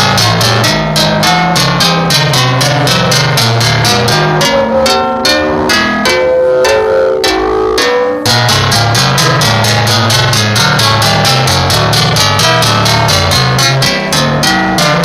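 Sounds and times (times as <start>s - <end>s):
bass line: 0.0s - 15.0s
music with fast steady beat: 0.0s - 15.0s
plucked string notes: 0.0s - 15.0s.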